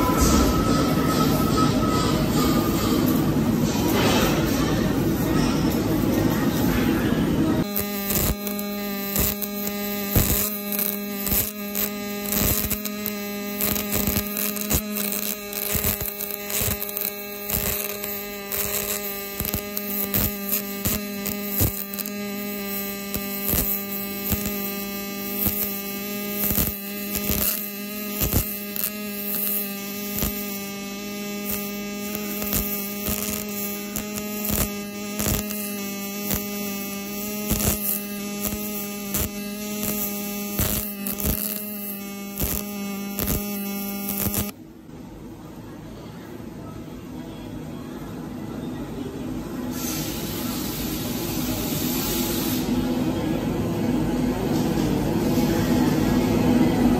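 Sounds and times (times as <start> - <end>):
welding arc buzzing and crackling: 0.0 - 44.6, 49.7 - 56.9.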